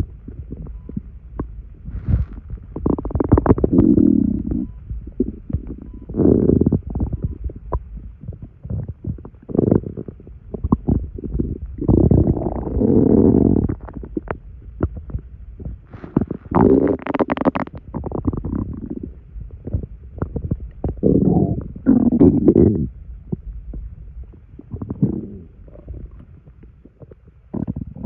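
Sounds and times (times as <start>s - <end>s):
stomach gurgling: 0.0s - 28.0s.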